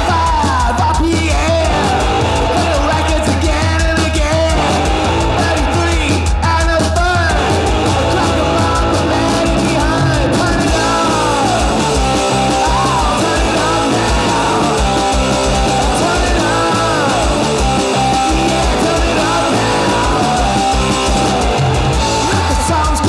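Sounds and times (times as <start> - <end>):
distorted electric guitar: 0.0 - 23.0
garage rock song: 0.0 - 23.0.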